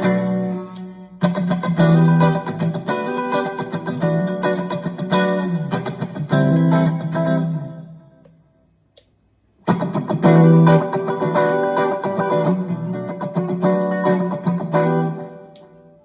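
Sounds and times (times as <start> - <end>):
overdriven electric guitar: 0.0 - 8.2, 9.6 - 16.0.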